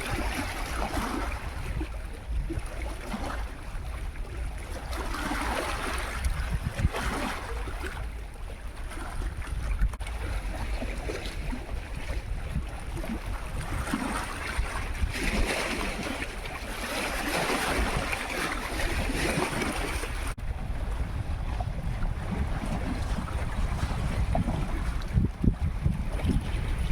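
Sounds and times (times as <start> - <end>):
wind rumbling on microphone: 0.0 - 26.9.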